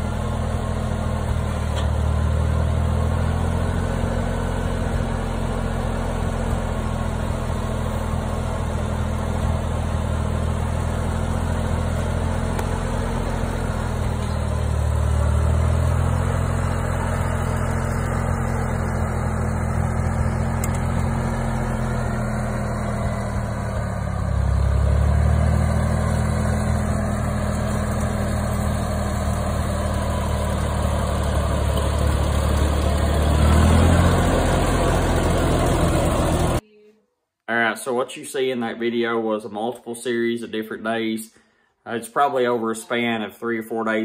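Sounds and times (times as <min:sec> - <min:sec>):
tractor engine running: 0:00.0 - 0:36.6.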